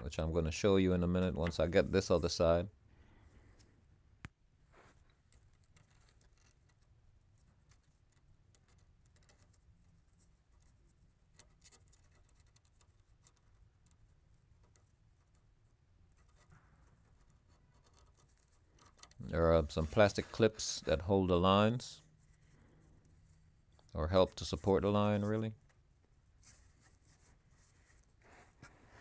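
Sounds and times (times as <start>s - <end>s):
faint scratching: 4.6s - 29.0s.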